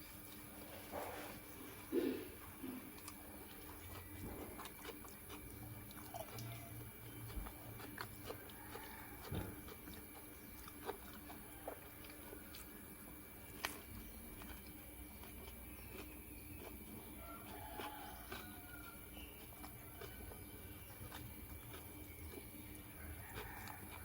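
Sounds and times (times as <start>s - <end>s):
person chewing food: 0.0s - 24.0s
small crunches: 0.0s - 24.0s.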